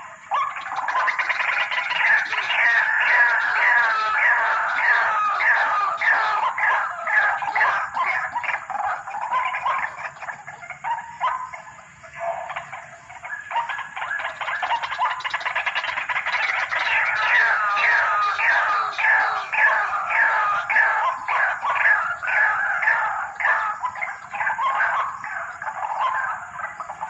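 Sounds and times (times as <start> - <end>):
waterhen calling harsh notes: 0.0 - 10.0, 13.6 - 26.6.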